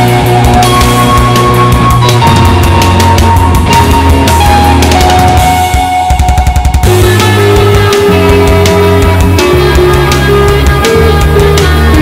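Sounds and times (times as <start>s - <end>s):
drum kit strikes: 0.0s - 11.0s
guitar and bass notes: 0.0s - 12.0s.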